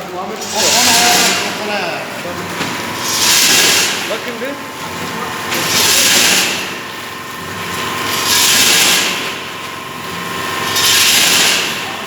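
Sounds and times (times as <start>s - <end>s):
packaging machine humming: 0.0s - 12.0s.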